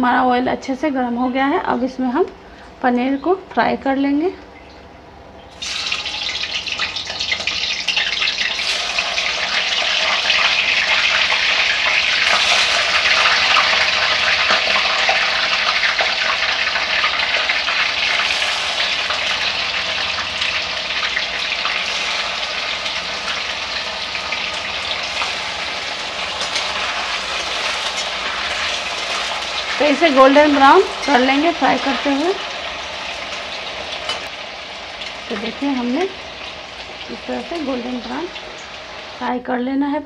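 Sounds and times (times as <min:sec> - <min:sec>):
cheese cubes sizzling in oil: 0:05.5 - 0:39.4.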